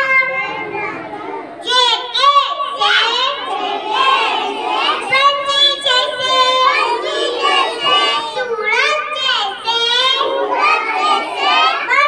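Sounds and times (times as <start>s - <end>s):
children singing a prayer: 0.0s - 12.0s.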